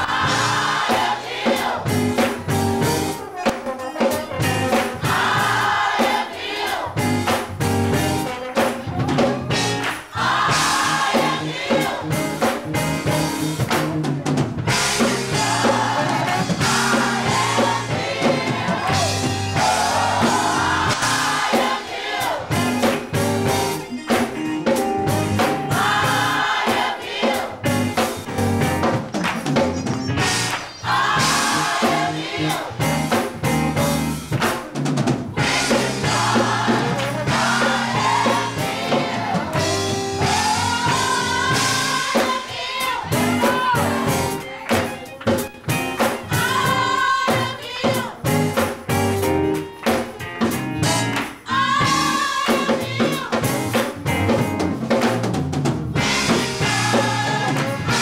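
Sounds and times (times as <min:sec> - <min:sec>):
gospel choir singing: 0:00.0 - 0:13.7, 0:14.7 - 0:48.8, 0:49.9 - 0:54.0, 0:55.9 - 0:58.0
drum kit steady beat: 0:00.0 - 0:58.0.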